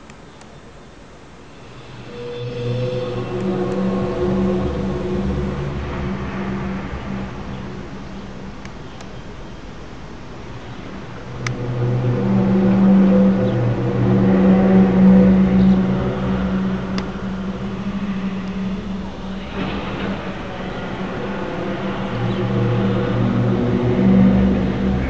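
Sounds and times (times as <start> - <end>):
low droning hum: 0.0 - 25.0.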